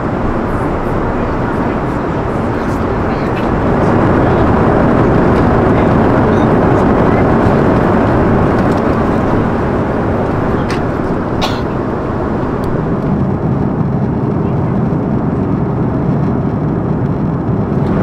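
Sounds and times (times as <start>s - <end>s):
airplane cabin engine rush: 0.0s - 18.0s.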